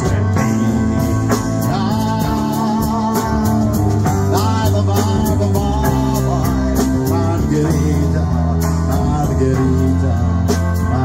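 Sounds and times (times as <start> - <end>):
bass: 0.0 - 11.0
drum kit with cymbal beat: 0.0 - 11.0
keyboard chords: 0.0 - 11.0.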